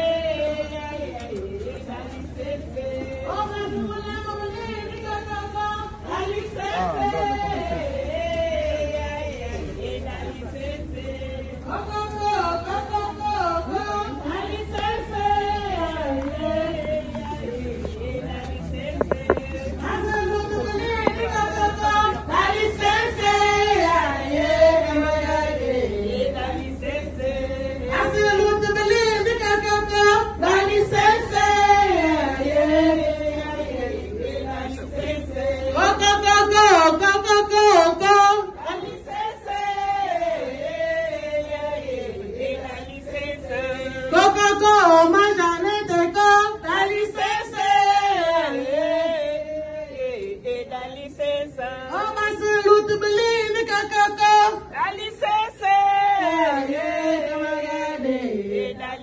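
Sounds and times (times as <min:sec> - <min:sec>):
group of people singing: 0:00.0 - 0:59.0.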